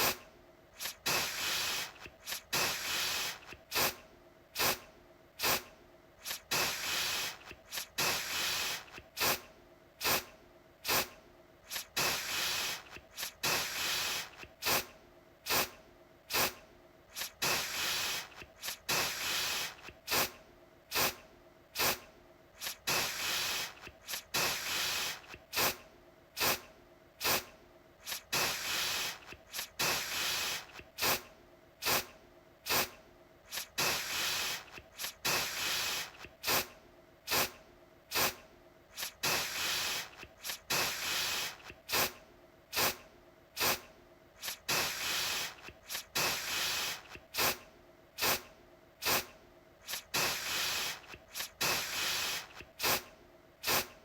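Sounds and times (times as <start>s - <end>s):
aerosol can spraying: 0.0s - 0.2s, 0.8s - 4.0s, 4.6s - 4.8s, 5.4s - 14.9s, 15.5s - 21.2s, 21.8s - 22.0s, 22.6s - 25.8s, 26.4s - 26.6s, 27.2s - 32.1s, 32.7s - 36.7s, 37.3s - 43.0s, 43.6s - 47.6s, 48.2s - 54.0s.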